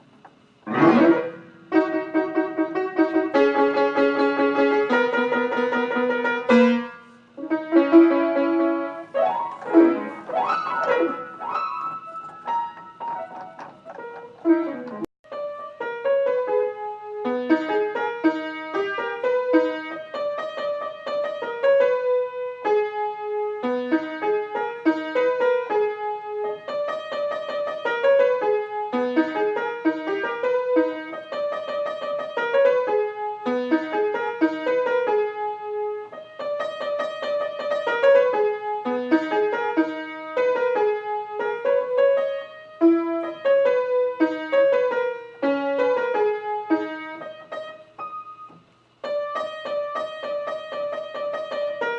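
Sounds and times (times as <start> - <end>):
piano keyboard melody: 0.0 - 51.9.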